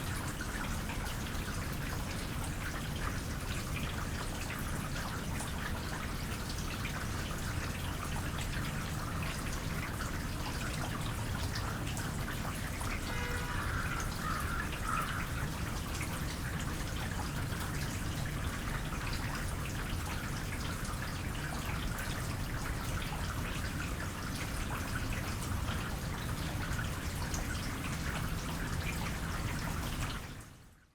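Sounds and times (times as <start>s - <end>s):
light rain pattering: 0.0s - 30.9s
trickling water: 0.0s - 30.9s.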